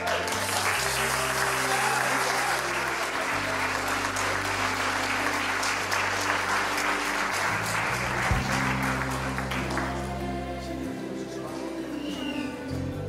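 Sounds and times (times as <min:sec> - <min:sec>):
congregation applauding: 0:00.0 - 0:10.5
instrumental music with bass notes: 0:00.0 - 0:13.0.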